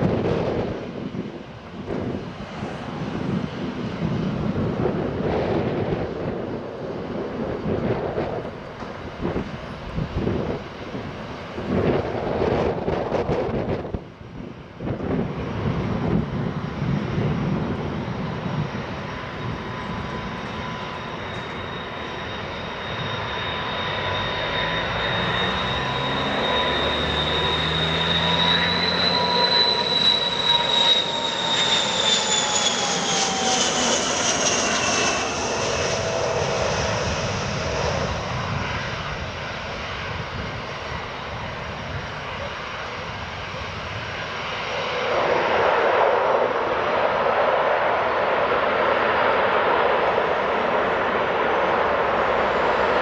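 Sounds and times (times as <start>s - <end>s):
airliner engines passing: 0.0s - 53.0s.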